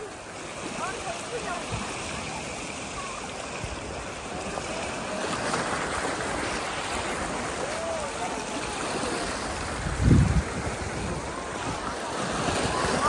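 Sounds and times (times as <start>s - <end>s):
sea waves on rocky shore: 0.0s - 13.0s.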